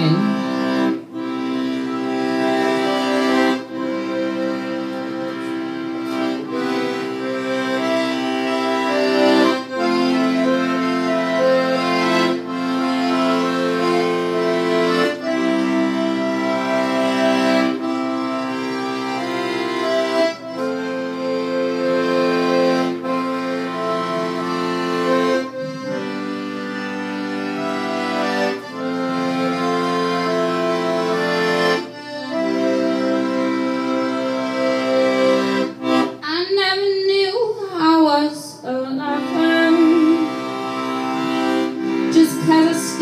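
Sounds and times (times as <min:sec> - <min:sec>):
piano accordion chords: 0:00.0 - 0:43.0.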